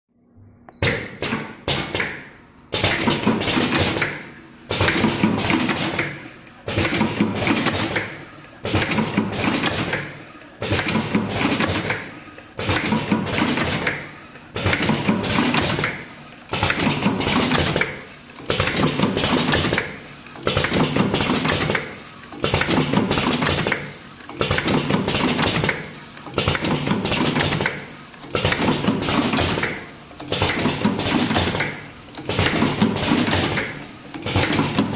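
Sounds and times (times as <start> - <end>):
quick machine clicks: 0.8 - 34.9
cartoning machine clattering: 2.8 - 34.9.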